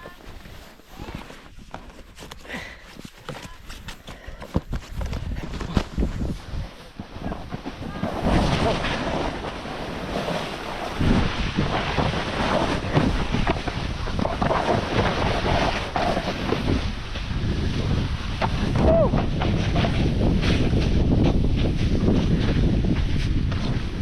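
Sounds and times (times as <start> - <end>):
wind buffeting microphone: 3.6 - 24.0.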